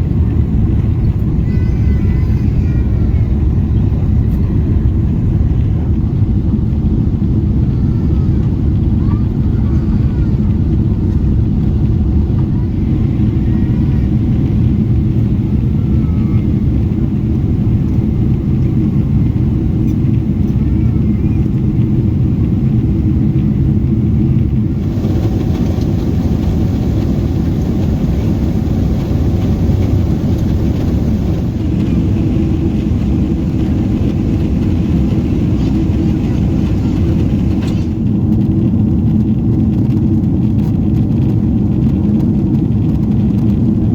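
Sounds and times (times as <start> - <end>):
airplane cabin rumble: 0.0 - 43.9.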